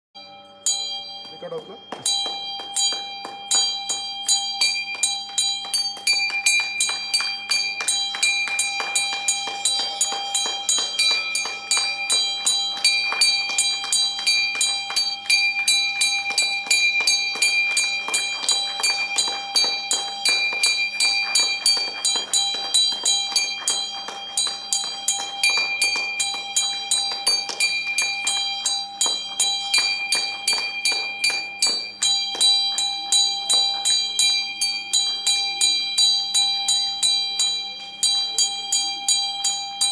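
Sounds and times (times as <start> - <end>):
bell ringing fast: 0.2 - 39.9.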